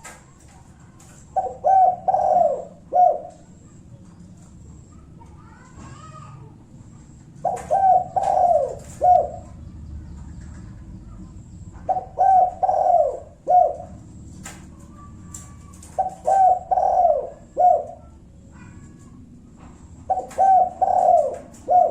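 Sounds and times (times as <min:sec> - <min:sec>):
dove cooing: 0:00.0 - 0:21.9.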